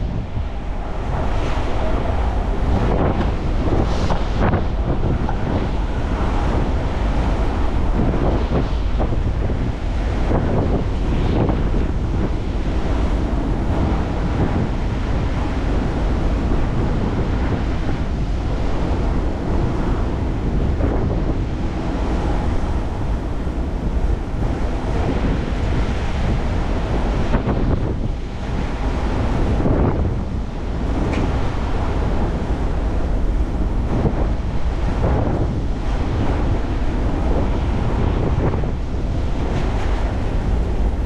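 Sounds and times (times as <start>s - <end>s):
strong wind buffeting microphone: 0.0s - 41.0s.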